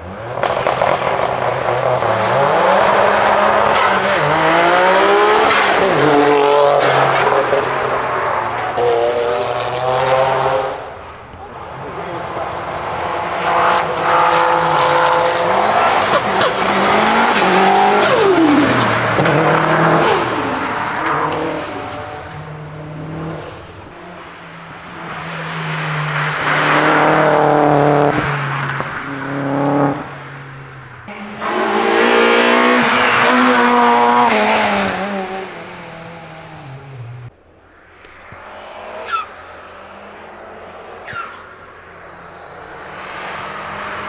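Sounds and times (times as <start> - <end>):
race car engines revving past: 0.0 - 44.0.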